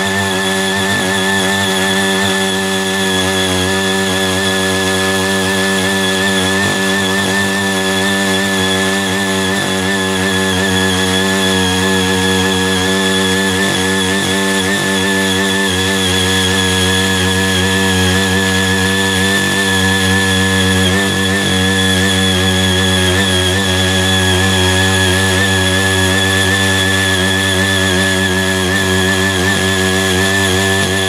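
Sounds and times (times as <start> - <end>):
high whine: 0.0 - 31.0
small engine running: 0.0 - 31.0
tines tilling dry soil: 0.0 - 31.0.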